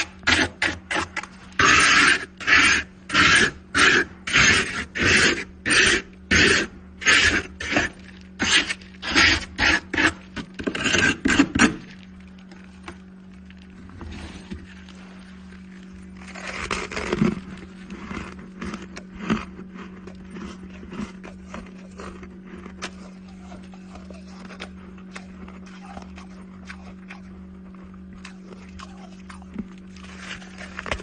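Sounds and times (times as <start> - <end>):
ice crunching: 0.0 - 31.0.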